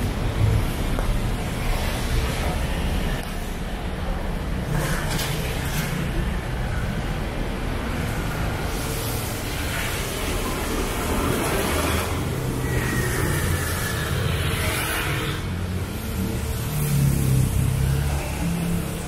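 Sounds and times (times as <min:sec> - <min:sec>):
tyre noise of passing vehicles: 0:00.0 - 0:19.0.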